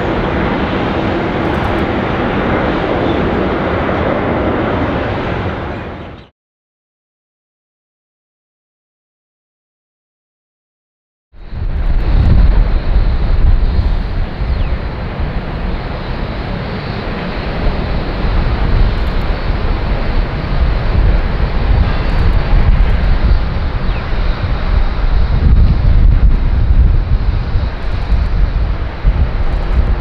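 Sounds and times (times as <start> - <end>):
jet engines rumbling: 0.0 - 6.3, 11.4 - 30.0.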